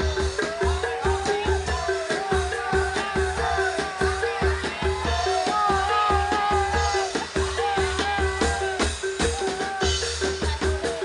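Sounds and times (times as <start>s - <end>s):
bass drum thumps: 0.0s - 11.0s
quick busy drumming: 0.0s - 11.0s.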